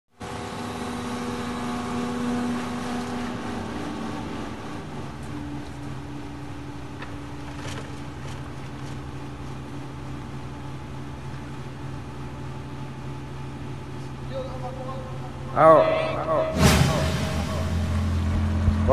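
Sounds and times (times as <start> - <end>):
engine running steadily: 0.2 - 18.9.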